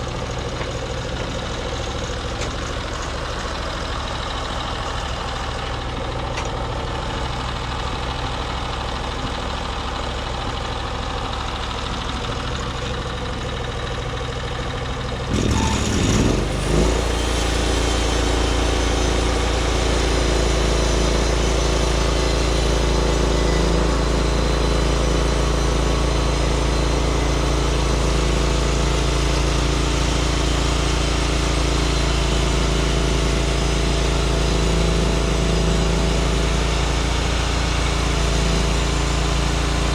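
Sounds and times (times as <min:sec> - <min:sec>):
small gas engine idling and revving: 0:00.0 - 0:39.9.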